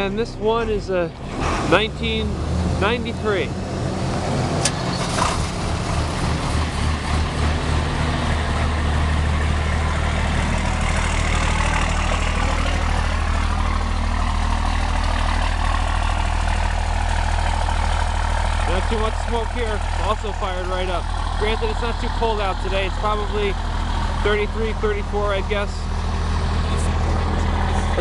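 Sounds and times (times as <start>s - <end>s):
diesel bus engine starting and idling: 0.0s - 28.0s.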